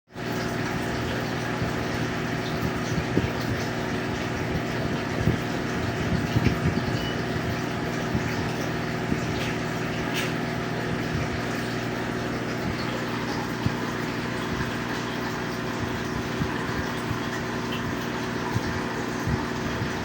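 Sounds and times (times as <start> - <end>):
moving water: 0.1 - 20.0
water pump humming: 0.1 - 20.0.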